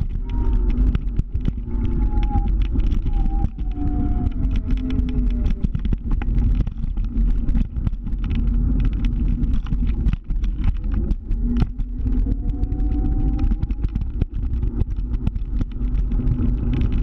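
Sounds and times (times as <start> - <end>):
heavy low rumble: 0.0 - 17.0.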